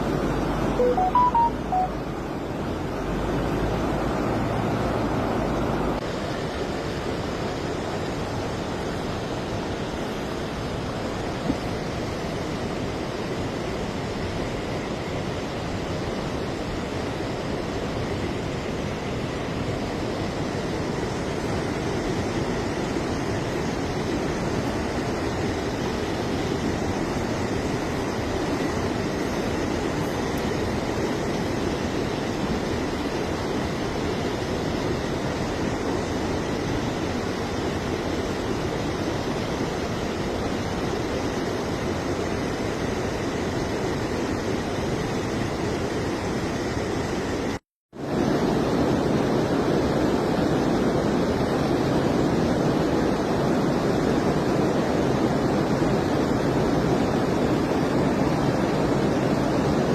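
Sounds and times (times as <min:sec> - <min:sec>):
fast-flowing water rushing: 0:00.0 - 0:59.9.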